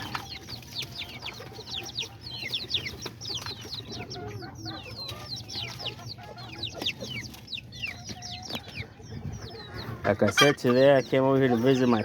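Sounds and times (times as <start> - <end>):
chicken clucking: 0.0 - 12.0
chicks peeping: 0.0 - 12.0.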